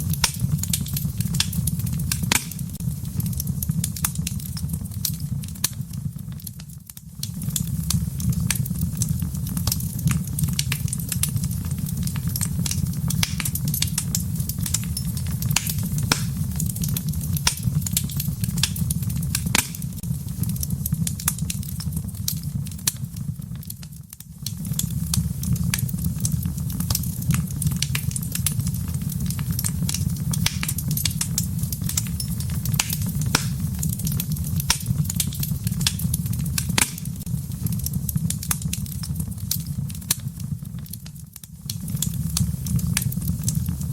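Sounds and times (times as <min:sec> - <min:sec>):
fire low rumble: 0:00.0 - 0:43.9
wood fire crackling and popping: 0:00.0 - 0:43.9.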